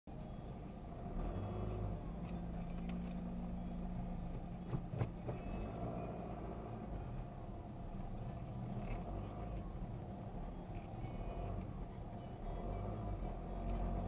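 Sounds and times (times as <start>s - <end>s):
vehicle engine humming: 0.1s - 14.0s.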